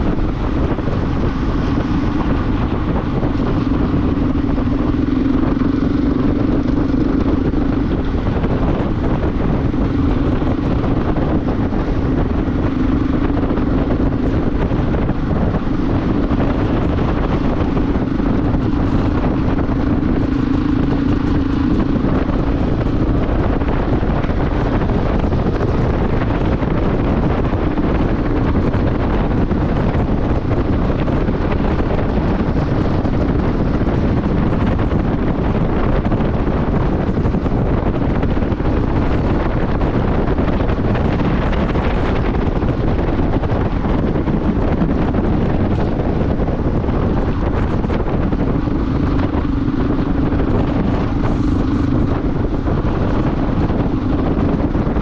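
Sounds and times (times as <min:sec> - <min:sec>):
motorcycle engine hum: 0:00.0 - 0:55.0
wind rushing on microphone: 0:00.0 - 0:55.0.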